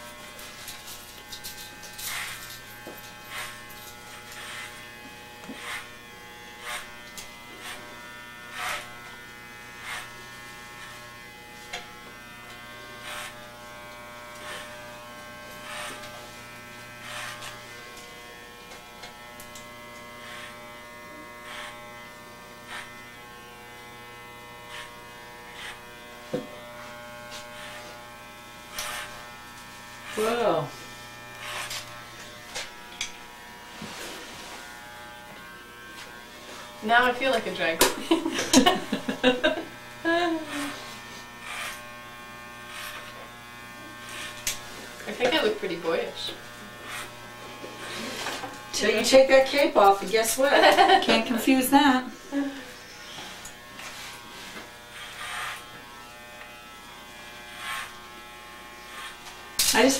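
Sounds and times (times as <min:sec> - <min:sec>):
electric hair clippers buzzing: 0:00.0 - 0:59.9.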